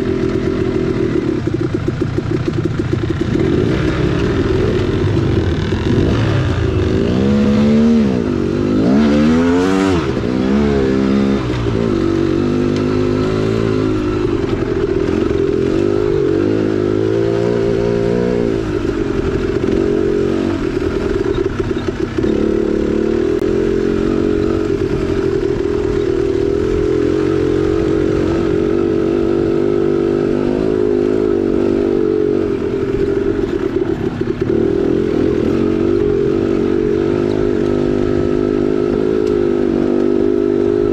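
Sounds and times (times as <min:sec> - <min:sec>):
two-stroke engine revving: 0:00.0 - 0:40.9.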